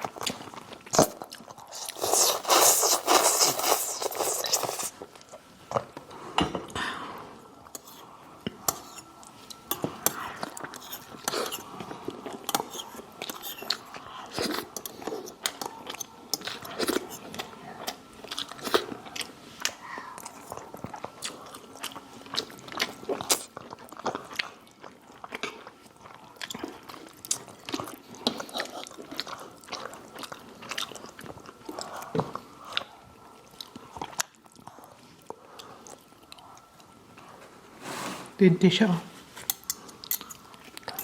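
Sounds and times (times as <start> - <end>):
chewing crispy fried chicken: 0.0 - 5.4, 9.5 - 37.0.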